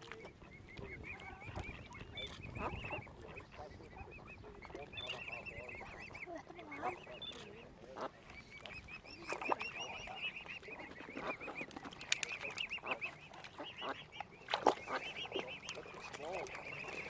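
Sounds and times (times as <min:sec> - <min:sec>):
cygnets peeping: 0:00.0 - 0:17.0
short waterfowl calls: 0:00.0 - 0:17.0.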